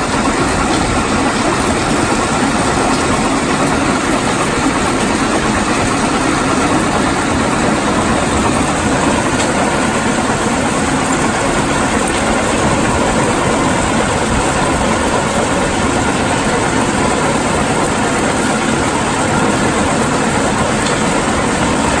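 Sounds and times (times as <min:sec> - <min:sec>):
feed conveyor: 0:00.0 - 0:22.0
rock crusher running: 0:00.0 - 0:22.0.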